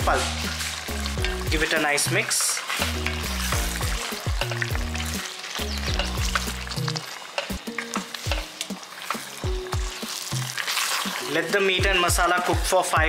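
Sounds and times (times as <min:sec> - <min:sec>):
spatula stirring and scraping: 0:00.0 - 0:12.7
background music with bass: 0:00.0 - 0:13.0
curry sizzling in a pot: 0:00.0 - 0:13.0.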